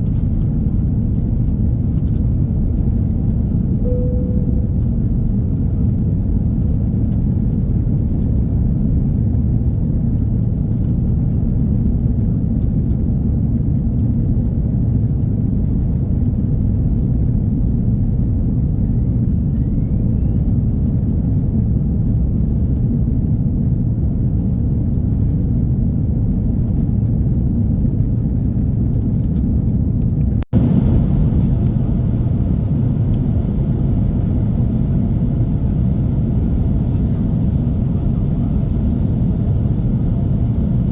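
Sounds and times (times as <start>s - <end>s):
jet cabin rumble: 0.0s - 40.9s.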